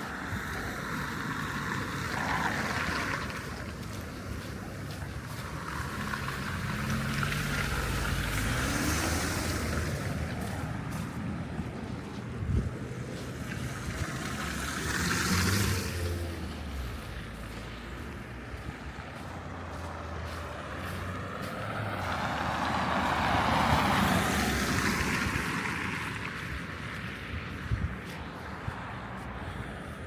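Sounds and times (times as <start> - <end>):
heavy vehicle engine humming: 0.0 - 30.0
vehicle passing: 0.0 - 30.0.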